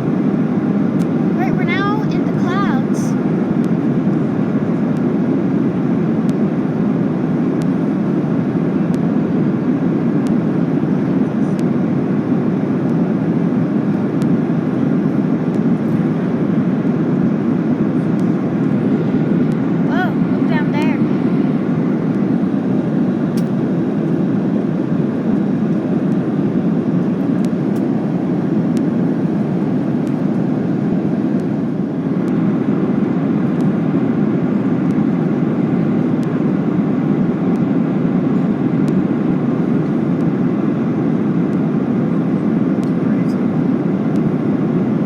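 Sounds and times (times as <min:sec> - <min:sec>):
airliner cabin noise: 0:00.0 - 0:45.0.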